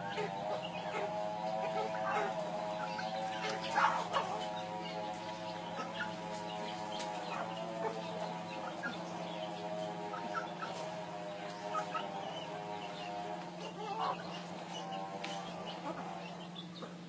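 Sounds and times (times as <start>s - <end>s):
hens clucking: 0.0s - 17.0s
steady hum: 0.0s - 17.0s.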